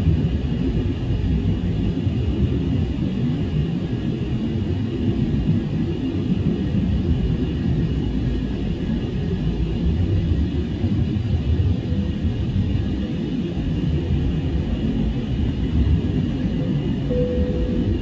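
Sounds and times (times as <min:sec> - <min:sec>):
airliner cabin rumble: 0:00.1 - 0:18.0.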